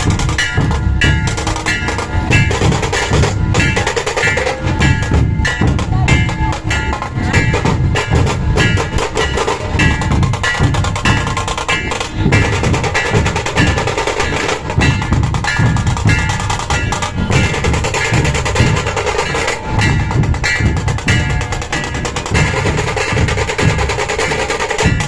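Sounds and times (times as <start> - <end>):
deep barrel drum strokes: 0.0 - 25.0
rapid stick drum rolls: 0.0 - 25.0.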